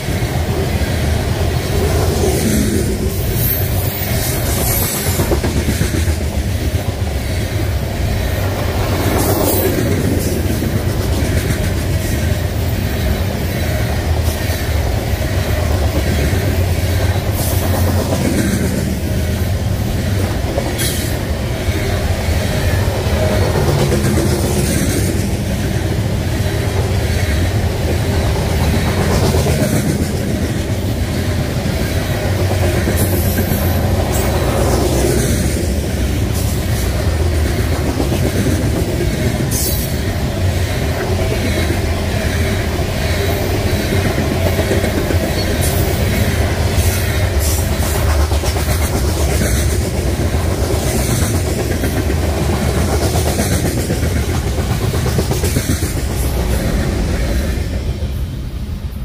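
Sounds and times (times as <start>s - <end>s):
rhythmic clickety-clack of wheels: 0.0s - 58.6s
train wheels rumbling on rails: 0.0s - 59.0s.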